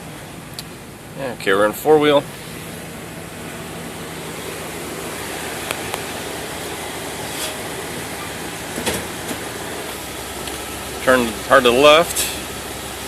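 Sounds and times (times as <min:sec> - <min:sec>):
engine and drivetrain hum: 0:00.0 - 0:13.0.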